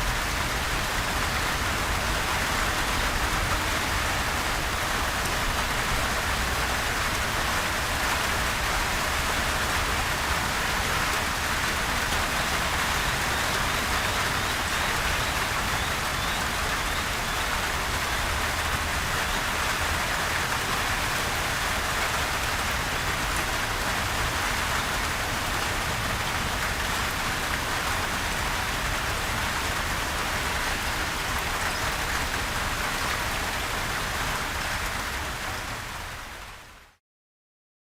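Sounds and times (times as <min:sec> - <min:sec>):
gentle rain pattering: 0:00.0 - 0:37.0.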